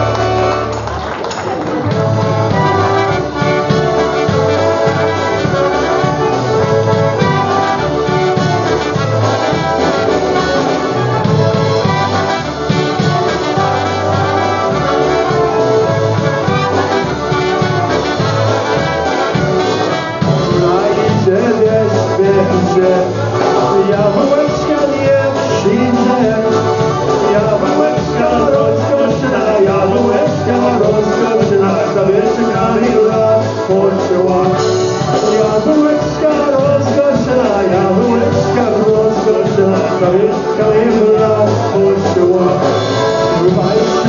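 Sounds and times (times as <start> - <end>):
polka band playing: 0.0 - 44.0.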